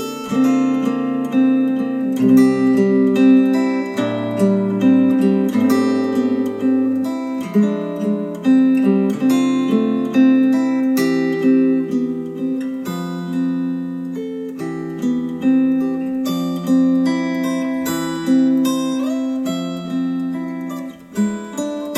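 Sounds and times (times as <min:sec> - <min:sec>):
acoustic guitar music through speakers: 0:00.0 - 0:21.9.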